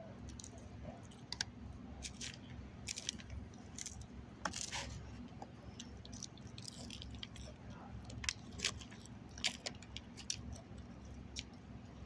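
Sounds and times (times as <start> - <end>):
person chewing food: 0.2 - 12.0
small crunches: 2.0 - 12.0.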